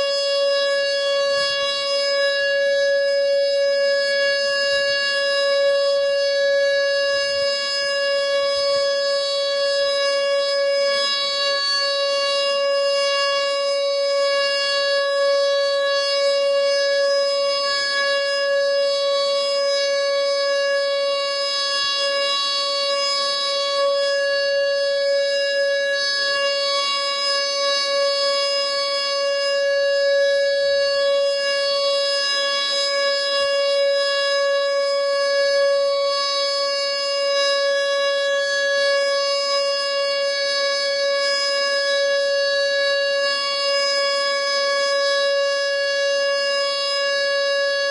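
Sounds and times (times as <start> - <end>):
warning siren steady tone: 0.0 - 47.9.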